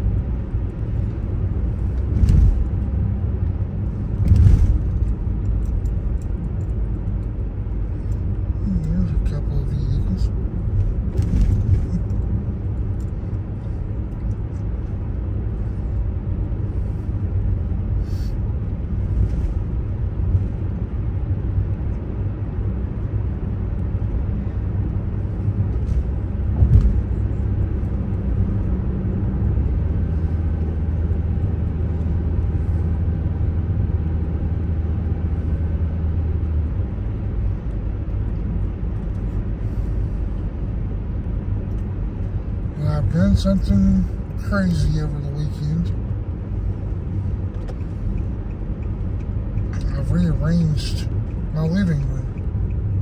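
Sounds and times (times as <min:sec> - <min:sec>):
car engine and road noise: 0:00.0 - 0:53.0
steady low hum: 0:00.0 - 0:53.0.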